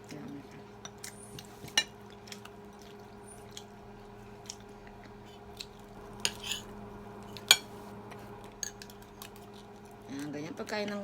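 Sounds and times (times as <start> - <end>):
chewing crispy fish: 0.0 - 11.0.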